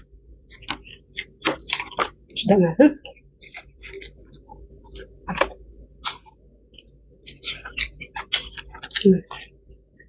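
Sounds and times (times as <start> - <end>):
chewing: 0.4 - 2.4, 3.1 - 9.6.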